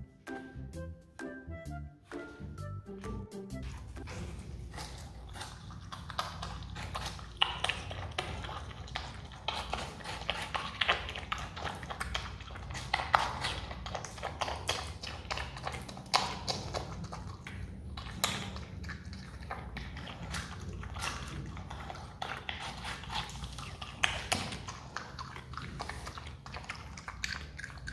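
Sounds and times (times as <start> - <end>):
animal chewing watermelon: 3.6 - 27.9.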